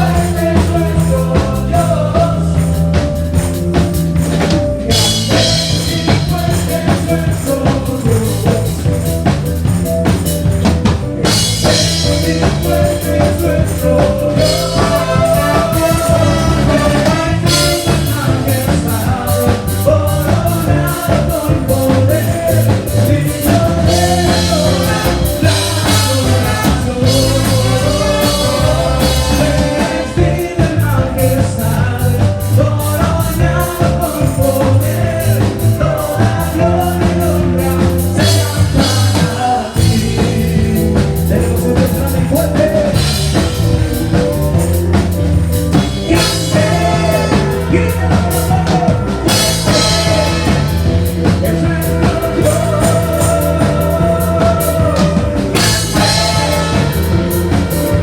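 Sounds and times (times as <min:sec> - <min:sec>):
band playing rock music: 0:00.0 - 0:58.0
drum kit: 0:00.0 - 0:58.0
person singing: 0:00.0 - 0:58.0.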